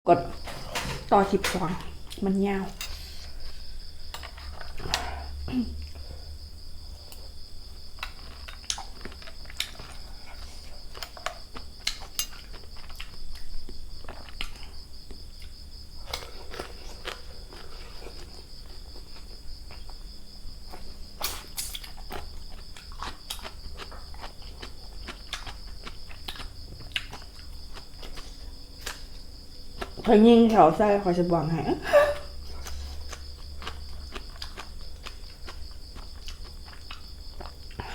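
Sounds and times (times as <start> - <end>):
crickets chirping: 0.1 - 37.9.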